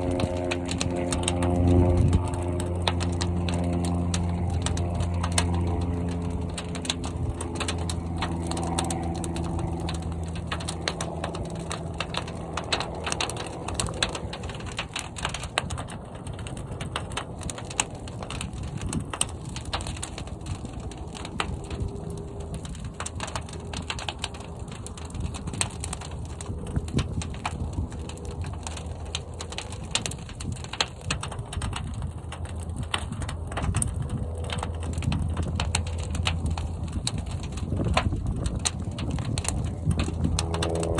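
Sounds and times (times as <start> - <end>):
fire crackles and pops: 0.0 - 40.9
fire rushing in kiln: 0.0 - 40.9
low steady hum: 0.0 - 40.9.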